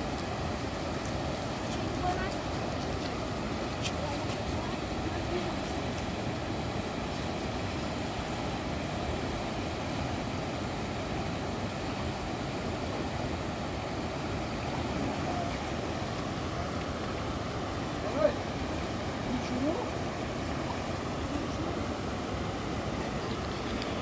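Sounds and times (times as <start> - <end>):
fast-flowing river rushing: 0.0 - 24.0.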